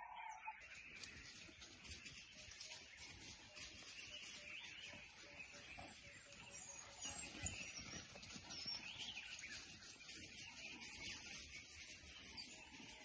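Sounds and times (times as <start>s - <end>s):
high chirping and twittering calls: 0.0s - 13.0s.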